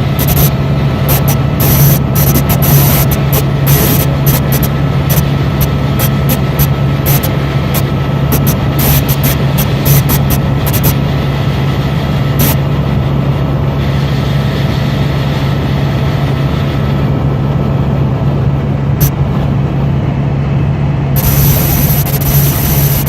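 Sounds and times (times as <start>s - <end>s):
helicopter turbine and rotor drone: 0.0s - 23.0s.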